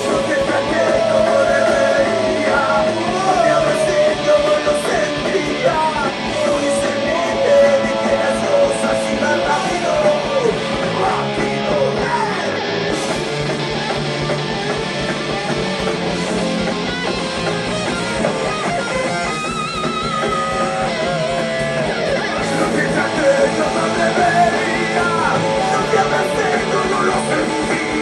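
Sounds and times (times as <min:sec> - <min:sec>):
live rock band playing: 0:00.0 - 0:28.0
wavering held guitar notes: 0:00.0 - 0:28.0.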